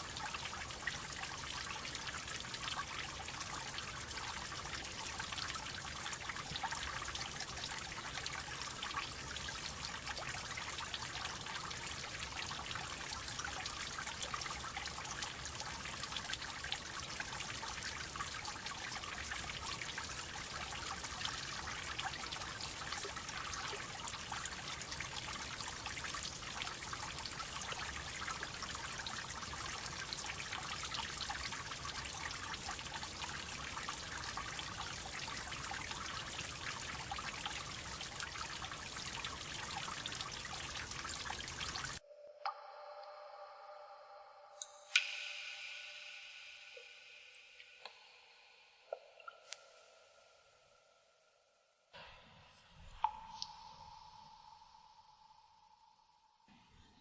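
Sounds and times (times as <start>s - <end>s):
water droplets dripping: 0.0s - 50.9s, 52.8s - 56.2s.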